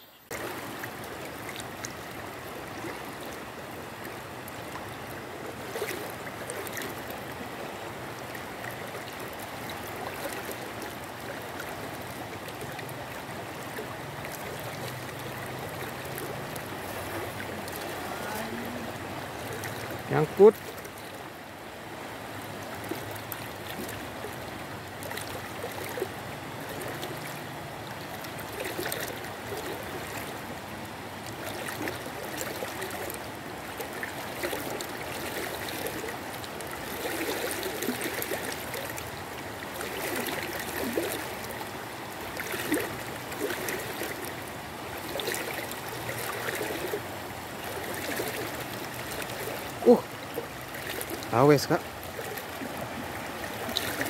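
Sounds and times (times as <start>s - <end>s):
river water rushing: 0.0s - 54.0s
splashing of person wading: 0.3s - 21.2s, 22.5s - 30.5s, 31.2s - 54.0s.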